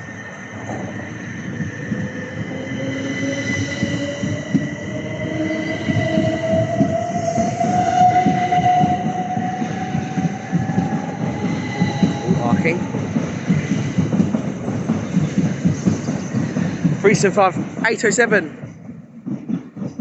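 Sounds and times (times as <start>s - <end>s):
train traction motors whining: 0.0s - 18.5s
wheels rumbling on rails: 0.0s - 20.0s.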